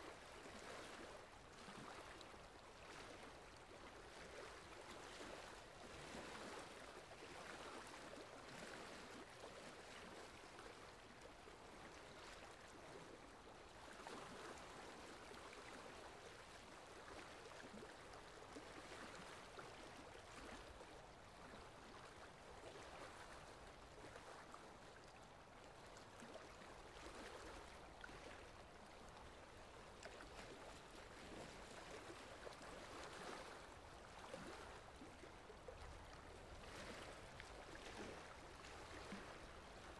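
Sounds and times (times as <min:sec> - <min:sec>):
faint running water: 0:00.0 - 0:39.9.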